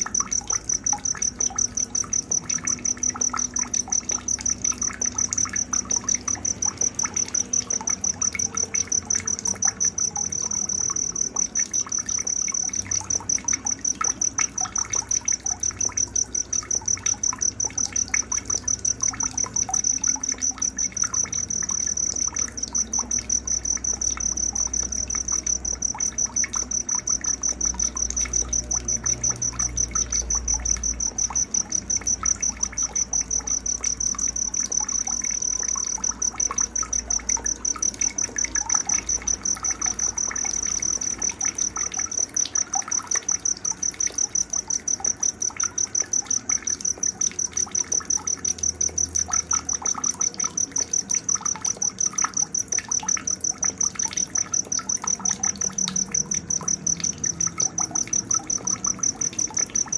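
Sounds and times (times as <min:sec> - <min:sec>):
insect trilling: 0:00.0 - 0:59.9.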